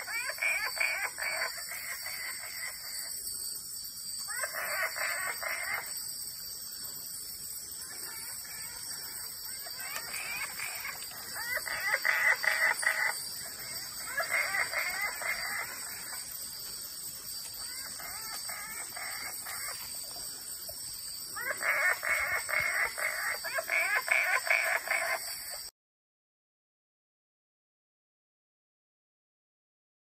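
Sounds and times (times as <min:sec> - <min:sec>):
frogs calling with clucking notes: 0:00.0 - 0:25.7
night insects droning: 0:00.0 - 0:25.7.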